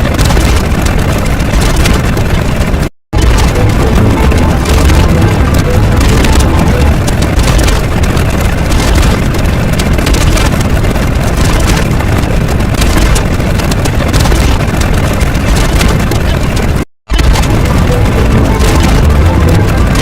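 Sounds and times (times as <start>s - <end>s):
harsh deep rumbling noise: 0.0s - 20.0s.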